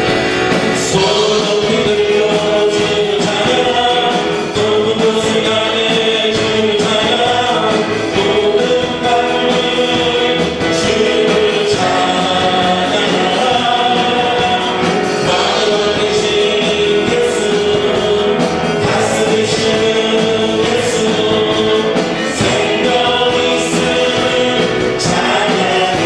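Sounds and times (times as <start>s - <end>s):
band accompaniment: 0.0s - 26.0s
congregation singing: 0.0s - 26.0s.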